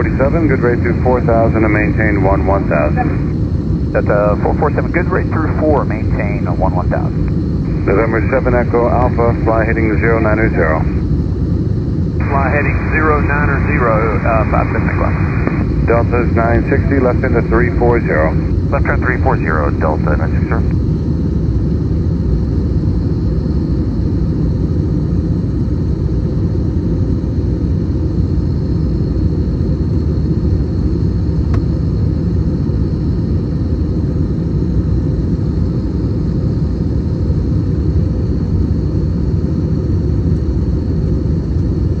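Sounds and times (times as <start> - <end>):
airplane cabin roar: 0.0 - 42.0
faint high whine: 0.0 - 42.0.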